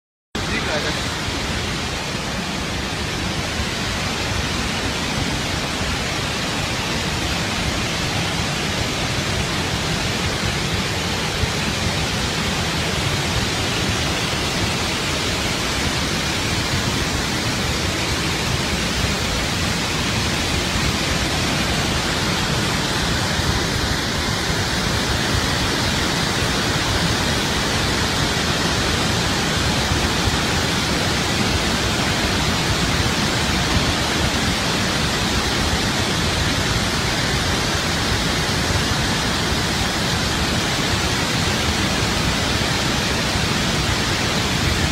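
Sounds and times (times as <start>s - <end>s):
water rushing from spillway: 0.4s - 44.9s.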